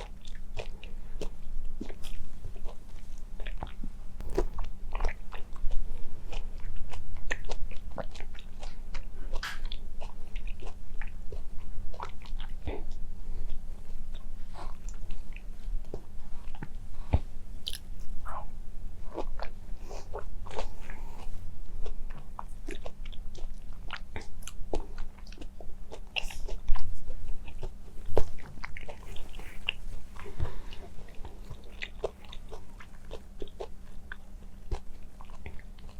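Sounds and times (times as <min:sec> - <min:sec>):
chewing mandarin orange: 0:00.0 - 0:35.9.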